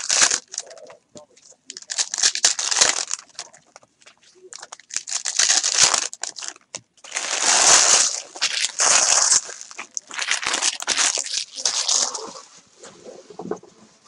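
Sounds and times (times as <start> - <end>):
foil wrappers crinkling: 0.0 - 12.5.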